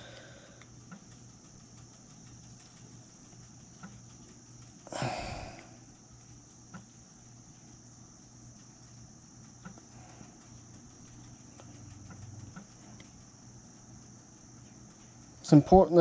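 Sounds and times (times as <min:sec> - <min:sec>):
faint clicks: 0:00.0 - 0:15.5
steady low hum: 0:00.0 - 0:16.0.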